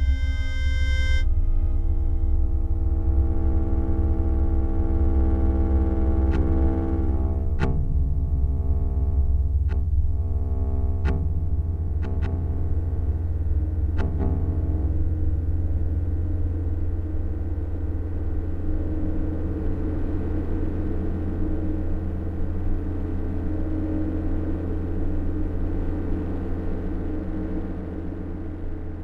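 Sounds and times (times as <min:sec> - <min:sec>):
held drone tones: 0:00.0 - 0:29.0
low rumble: 0:00.0 - 0:29.0.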